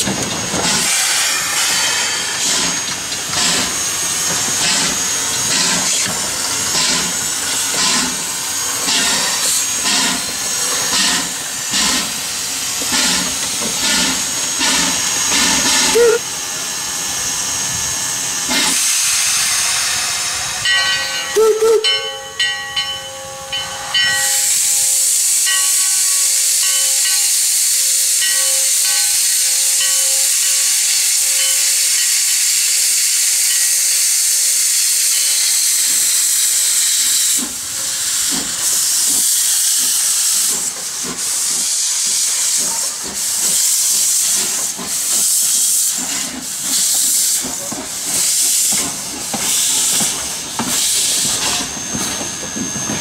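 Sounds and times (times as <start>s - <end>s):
steam locomotive chuffing: 0.0s - 53.0s
steam locomotive hissing: 0.0s - 53.0s.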